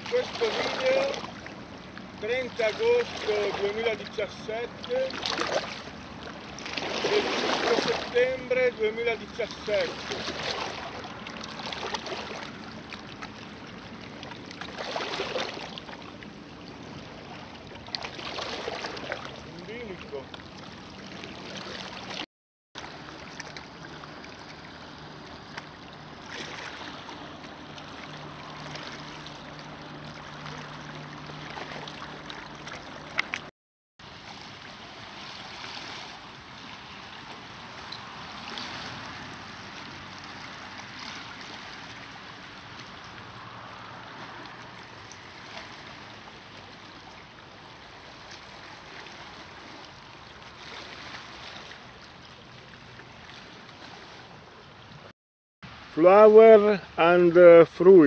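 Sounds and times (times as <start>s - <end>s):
small waves lapping on pebbles: 0.0s - 22.2s, 22.8s - 54.6s.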